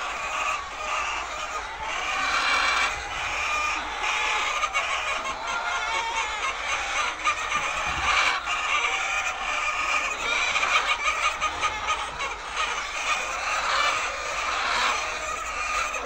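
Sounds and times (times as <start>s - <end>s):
hens calling: 0.0s - 16.0s.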